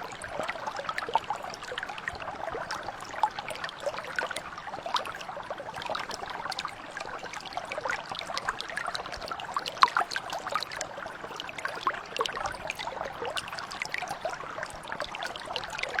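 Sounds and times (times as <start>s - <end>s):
brook babbling: 0.0s - 16.0s.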